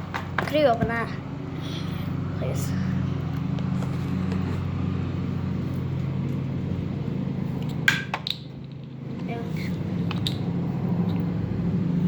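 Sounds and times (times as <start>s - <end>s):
mechanical motor hum: 0.0s - 12.0s.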